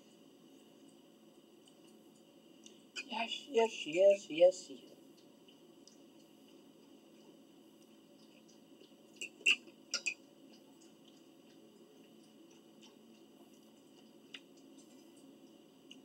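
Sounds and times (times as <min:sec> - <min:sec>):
low room hum: 0:00.0 - 0:16.0
person eating with wet smacks: 0:00.2 - 0:03.0, 0:04.9 - 0:16.0.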